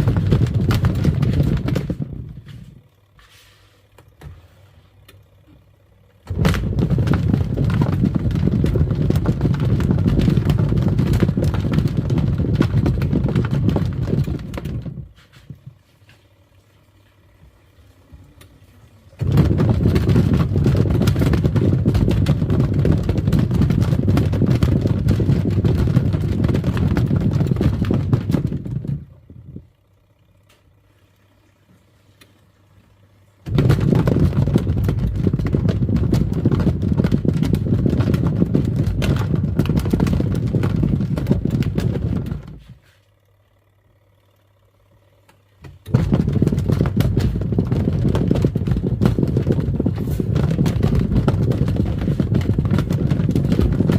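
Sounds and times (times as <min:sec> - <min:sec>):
washing machine churning water: 0:00.0 - 0:42.9, 0:45.5 - 0:53.9
faint low hum: 0:00.0 - 0:53.9.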